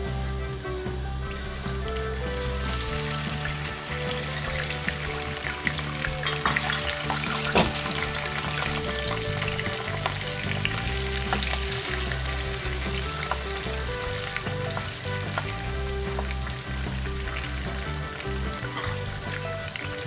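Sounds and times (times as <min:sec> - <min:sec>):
food sizzling in hot oil: 0:00.9 - 0:20.0.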